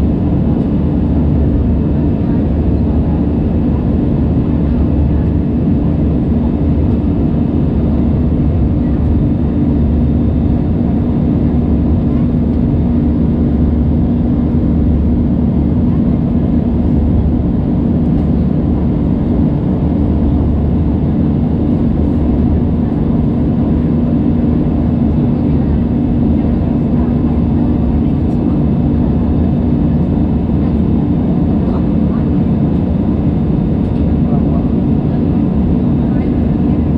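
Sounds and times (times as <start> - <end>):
jet engines droning in cabin: 0.0 - 36.9.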